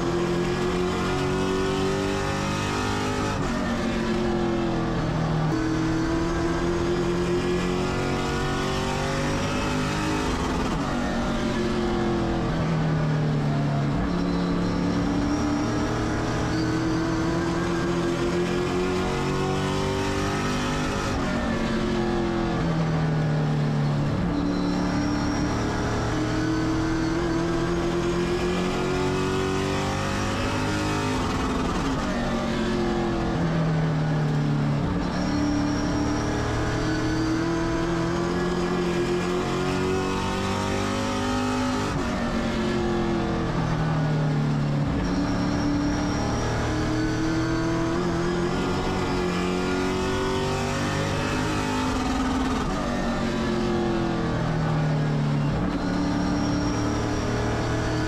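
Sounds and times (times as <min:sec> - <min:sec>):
race car engine: 0:00.0 - 0:58.0.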